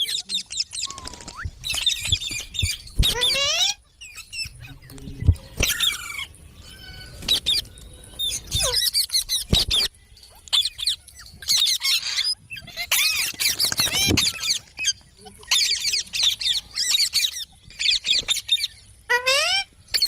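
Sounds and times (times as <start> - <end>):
parrots chirping and squawking: 0.0 - 20.0.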